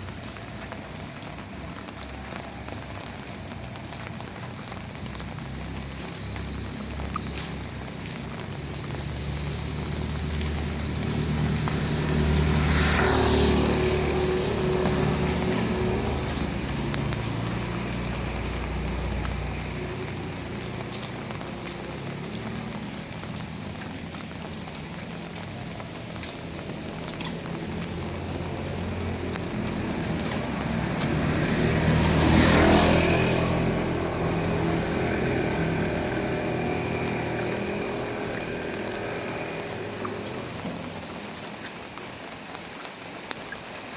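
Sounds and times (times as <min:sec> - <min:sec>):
engine hum: 0:00.0 - 0:43.9
rain hissing: 0:00.0 - 0:43.9
vehicle passing on wet road: 0:00.0 - 0:43.9.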